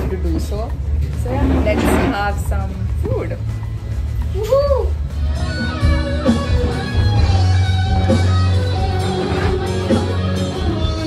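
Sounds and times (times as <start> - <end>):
guitar music with heavy bass: 0.0 - 11.0.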